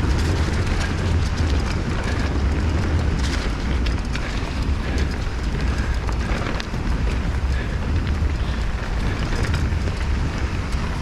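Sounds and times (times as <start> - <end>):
bike tyres and frame rattling: 0.0 - 11.0
wind buffeting microphone: 0.0 - 11.0.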